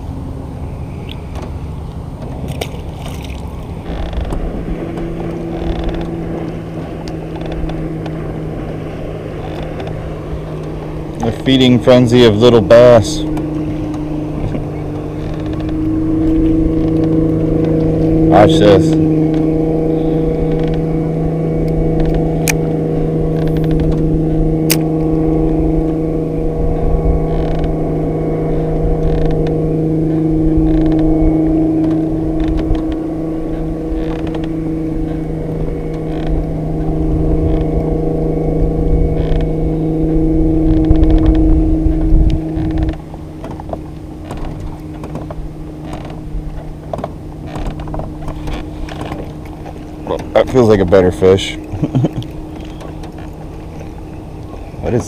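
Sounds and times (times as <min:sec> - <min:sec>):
electric trolling motor humming: 0:00.0 - 0:55.0.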